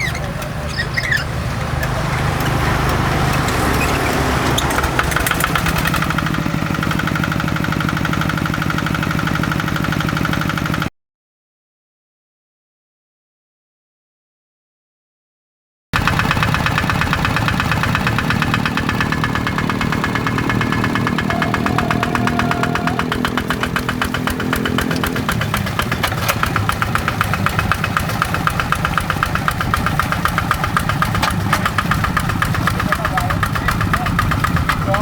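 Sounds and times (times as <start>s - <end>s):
diesel engine running: 0.0s - 10.9s, 16.0s - 35.0s.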